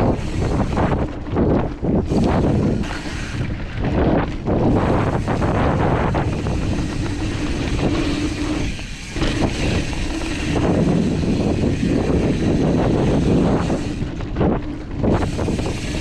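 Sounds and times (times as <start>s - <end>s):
bike knocks and rattles: 0.0s - 16.0s
tyres on dirt: 0.0s - 16.0s
wind buffeting microphone: 0.0s - 16.0s.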